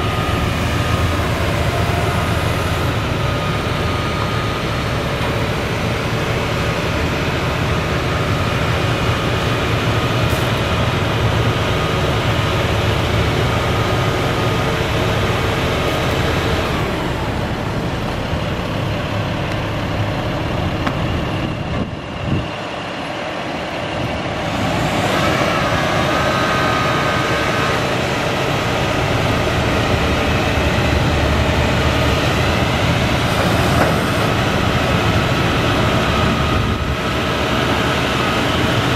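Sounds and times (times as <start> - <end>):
diesel truck engine running: 0.0 - 38.9
hydraulic whine: 0.0 - 38.9.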